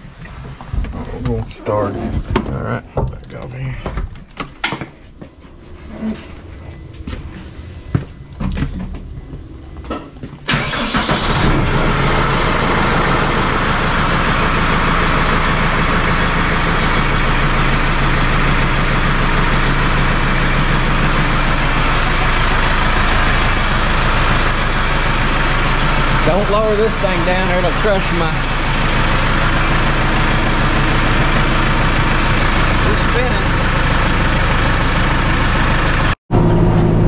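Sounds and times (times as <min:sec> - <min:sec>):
tractor diesel engine running: 0:05.6 - 0:37.0.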